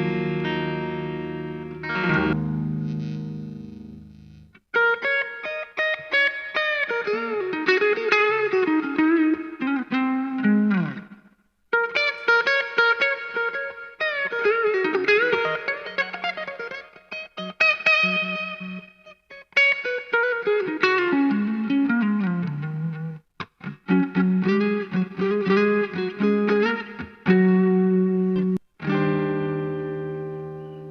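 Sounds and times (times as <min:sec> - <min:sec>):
electric guitar lead with bends: 0:00.0 - 0:30.9.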